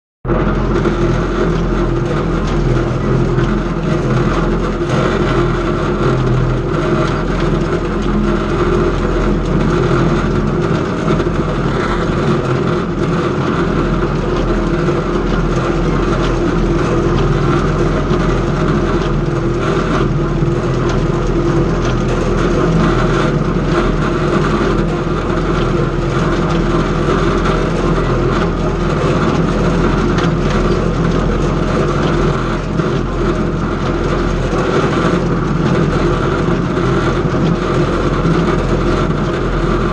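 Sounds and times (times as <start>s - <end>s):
hay baler working: 0.2s - 39.9s
tractor engine running: 0.2s - 39.9s.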